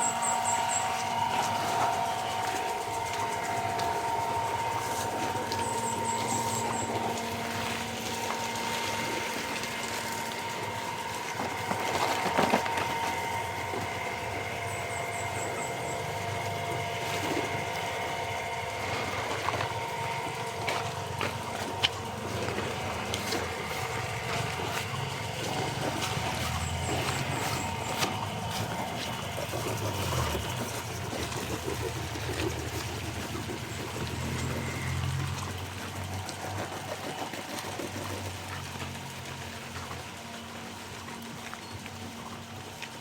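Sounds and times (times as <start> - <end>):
continuous hum of held tones: 0.0 - 43.0.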